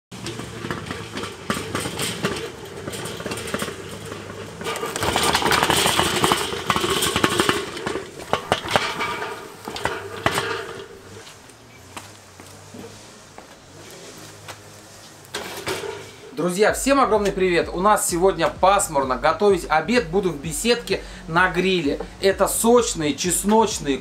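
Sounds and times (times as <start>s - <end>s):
grill wheels rattling on concrete: 0.1s - 24.0s.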